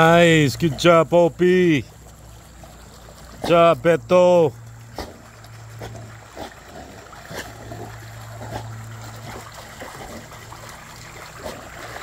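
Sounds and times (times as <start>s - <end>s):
low steady hum: 0.0s - 12.0s
pool water sloshing: 0.0s - 12.0s
small splashes: 0.0s - 12.0s
water streaming off dog's coat: 0.0s - 12.0s.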